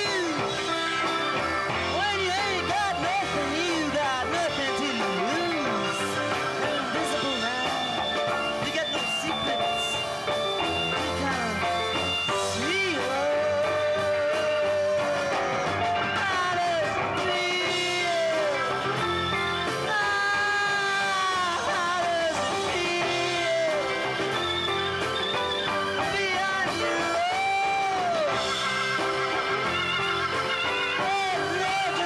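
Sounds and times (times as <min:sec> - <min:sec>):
live rock band playing: 0:00.0 - 0:32.0
man singing lead vocal: 0:00.0 - 0:32.0.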